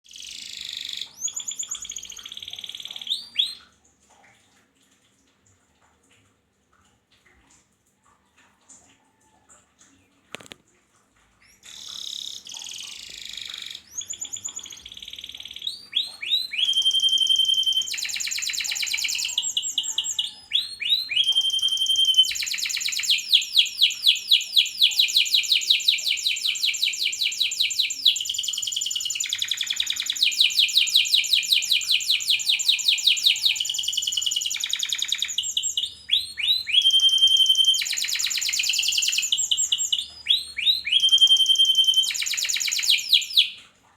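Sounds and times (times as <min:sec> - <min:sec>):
canary singing trills: 0:00.0 - 0:03.6, 0:11.4 - 0:43.6.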